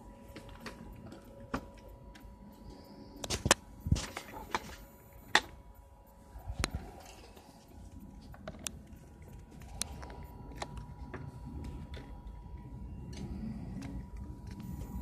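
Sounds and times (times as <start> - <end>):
faint steady tone: 0.0 - 15.0.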